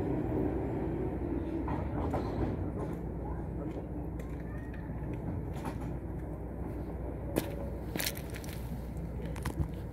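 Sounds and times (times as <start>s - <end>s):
tram rumbling: 0.0s - 9.9s.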